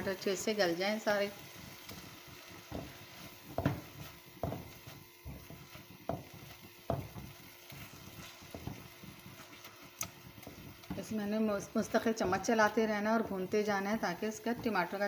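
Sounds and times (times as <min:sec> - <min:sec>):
faint steady sizzle: 0:00.0 - 0:15.0
spatula scraping a frying pan: 0:01.4 - 0:15.0.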